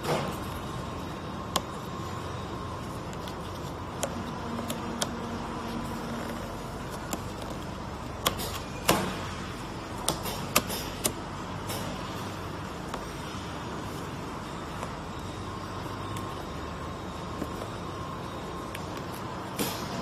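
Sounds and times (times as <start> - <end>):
packaging machinery hum: 0.0 - 20.0.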